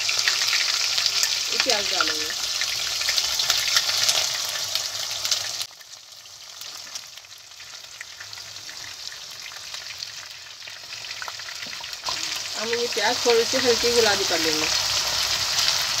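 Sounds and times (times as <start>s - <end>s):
frying crackle with small pops: 0.0s - 16.0s
onions sizzling in hot oil: 0.0s - 16.0s.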